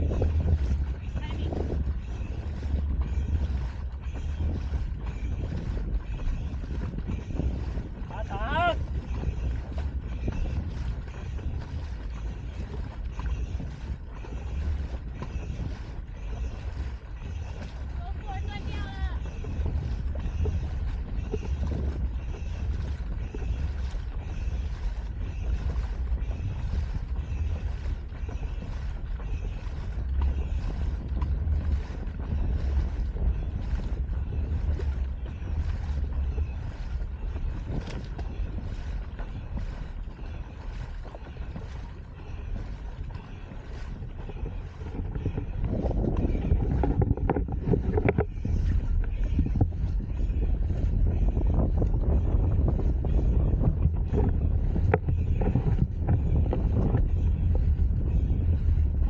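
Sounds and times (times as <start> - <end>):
boat paddles splashing: 0.0 - 59.0
wind rumbling on microphone: 0.0 - 59.0.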